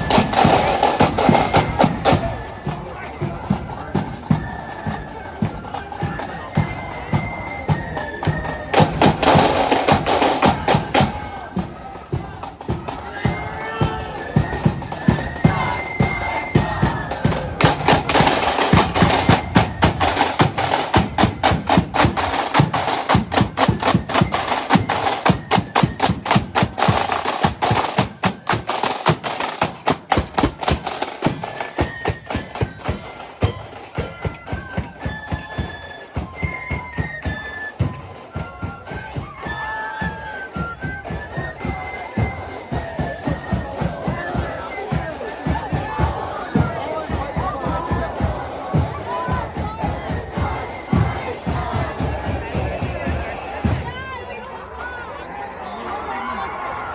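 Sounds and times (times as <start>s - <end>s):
snare drumming and rolls: 0.0s - 54.0s.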